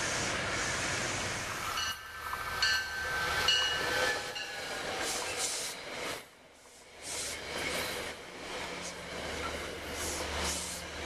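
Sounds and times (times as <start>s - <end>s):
train wheels clicking on track: 0.0s - 11.0s.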